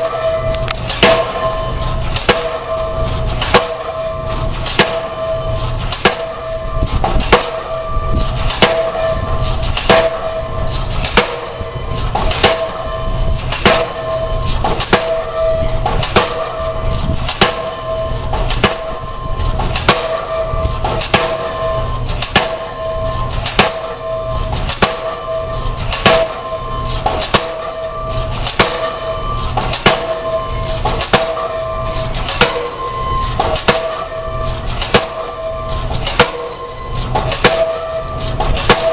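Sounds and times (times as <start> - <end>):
machine hum and low rumble: 0.0 - 38.9
pile-driving hammer blows: 0.0 - 38.9.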